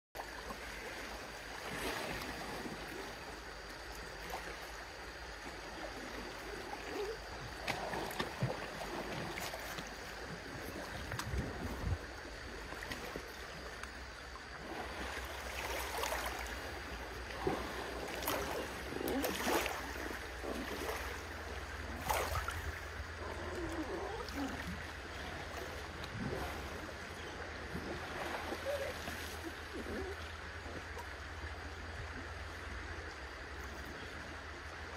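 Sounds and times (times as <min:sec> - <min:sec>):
water splashing: 0:00.2 - 0:31.4.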